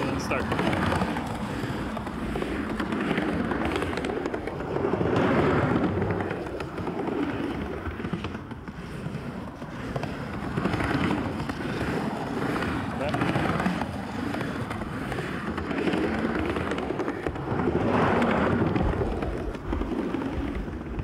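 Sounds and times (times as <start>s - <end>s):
skateboard wheels rumbling: 0.0s - 21.0s.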